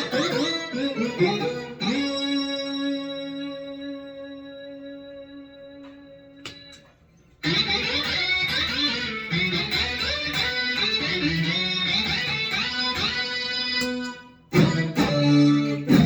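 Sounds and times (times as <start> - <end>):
synth guitar notes: 0.0 - 16.0.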